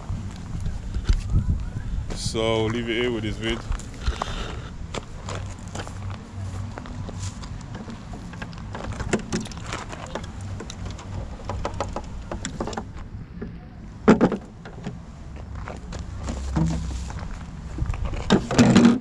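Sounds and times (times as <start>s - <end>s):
handling and rustling noise: 0.0s - 13.1s, 14.1s - 19.0s.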